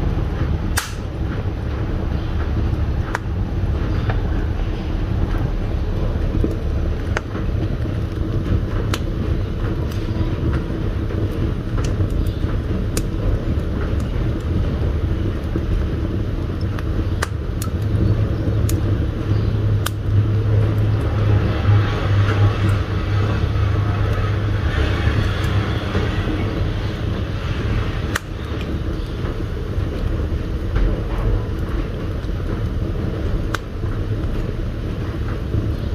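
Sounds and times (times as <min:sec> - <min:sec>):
fire crackles and pops: 0:00.0 - 0:35.9
wood fire roaring: 0:00.0 - 0:35.9.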